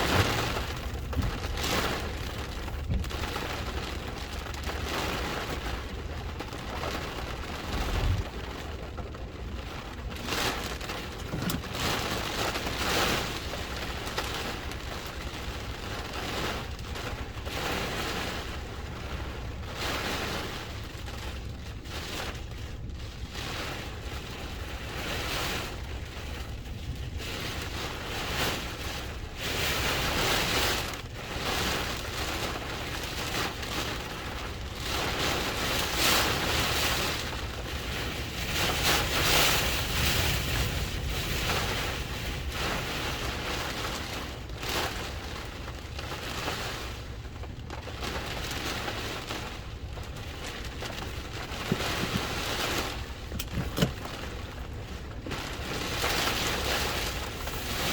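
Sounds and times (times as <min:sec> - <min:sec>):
heavy rain: 0:00.0 - 0:57.9
hurricane wind: 0:00.0 - 0:57.9.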